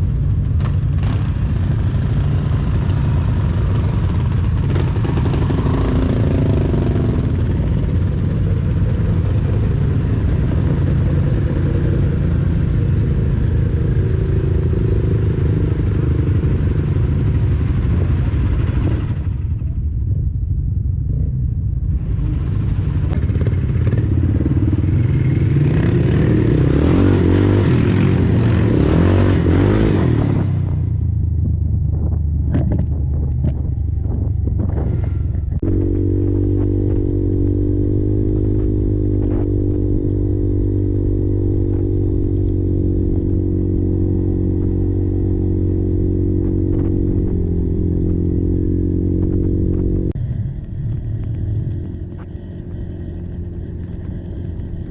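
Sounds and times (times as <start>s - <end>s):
quad bike engine running: 0.0s - 19.9s, 21.9s - 54.9s.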